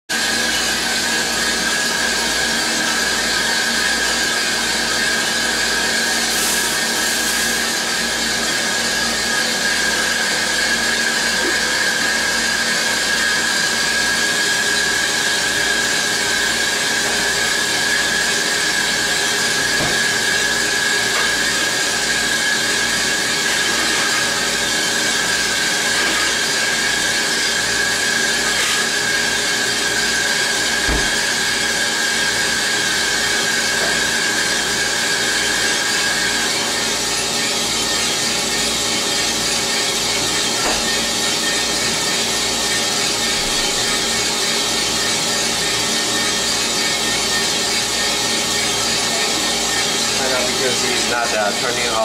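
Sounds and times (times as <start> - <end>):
coffee roaster drum running: 0.1 - 52.0.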